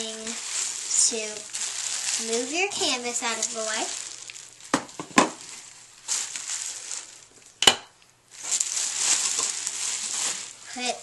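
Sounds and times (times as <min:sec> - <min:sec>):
bubble wrap crinkling: 0:00.0 - 0:07.6, 0:08.2 - 0:11.0.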